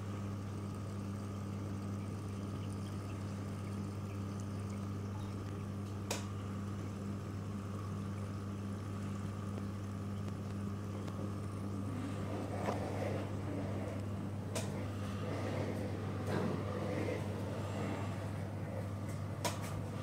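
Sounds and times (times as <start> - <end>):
aquarium pumps humming: 0.0 - 20.0.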